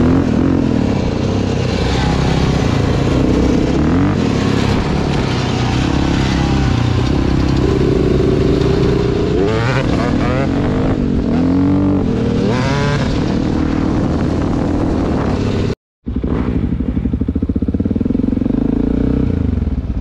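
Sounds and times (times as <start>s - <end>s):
dirt bike engine revving: 0.0s - 19.5s.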